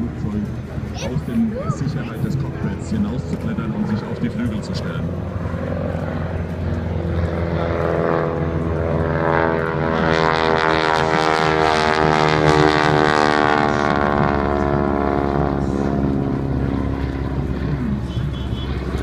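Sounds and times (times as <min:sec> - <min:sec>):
biplane engine and propeller drone: 0:00.0 - 0:19.0.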